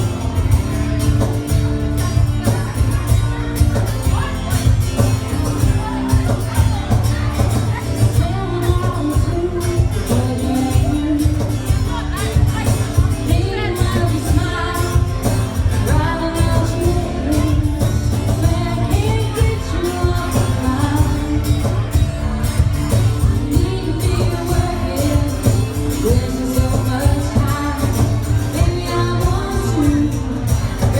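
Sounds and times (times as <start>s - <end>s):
country band playing live: 0.0s - 30.9s.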